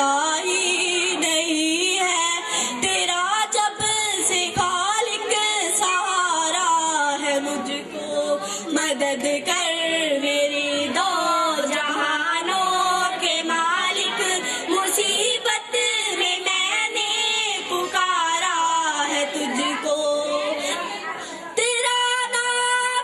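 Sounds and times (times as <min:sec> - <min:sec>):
high singing voice: 0:00.0 - 0:23.0.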